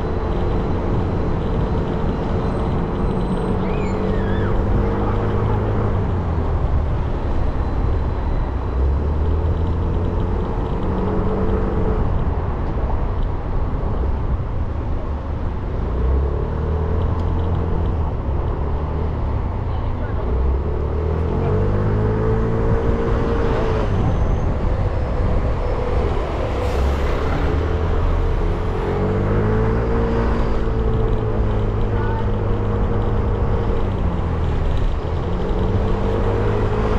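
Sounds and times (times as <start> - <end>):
wind and road noise: 0.0 - 36.9.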